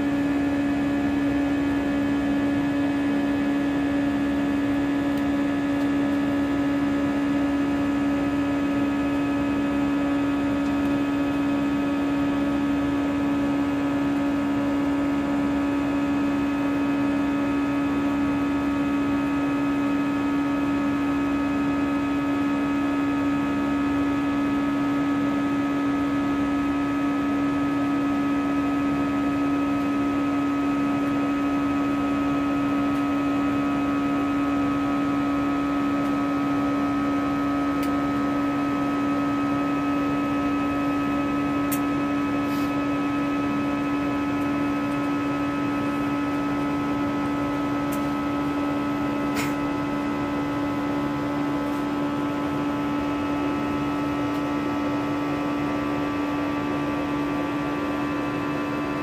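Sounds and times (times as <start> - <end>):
jet engine cabin drone: 0.0 - 59.0.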